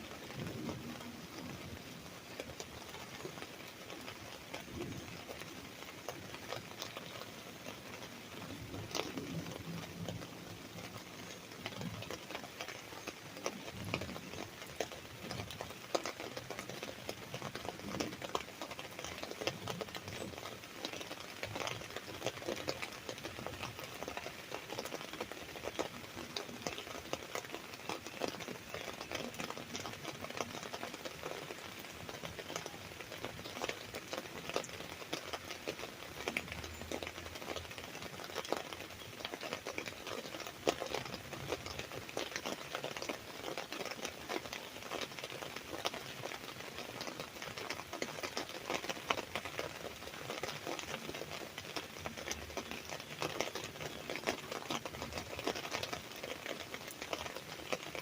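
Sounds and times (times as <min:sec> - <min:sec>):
rain pattering on umbrella: 0:00.0 - 0:58.0.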